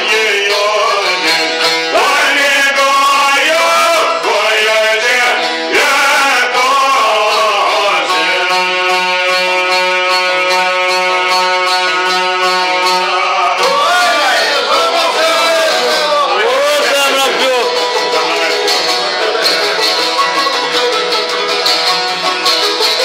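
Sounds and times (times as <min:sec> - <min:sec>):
man singing folk song: 0:00.0 - 0:23.0
plucked lutes: 0:00.0 - 0:23.0.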